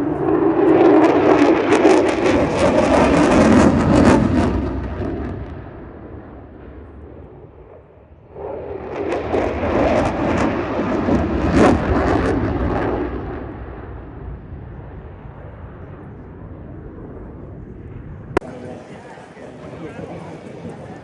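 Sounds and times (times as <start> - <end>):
aircraft engine roar with crackling: 0.0 - 21.0.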